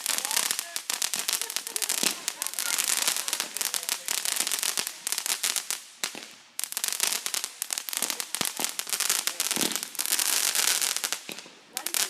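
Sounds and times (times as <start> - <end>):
fireworks crackling pops: 0.0 - 12.0.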